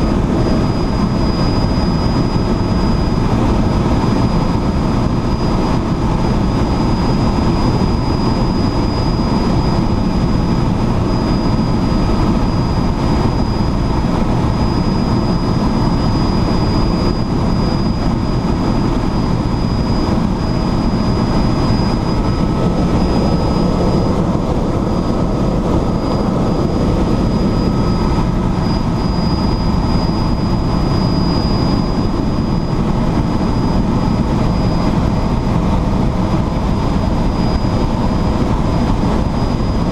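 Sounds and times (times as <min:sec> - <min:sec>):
helicopter rotor and engine drone: 0:00.0 - 0:39.9
high whine: 0:00.0 - 0:39.9.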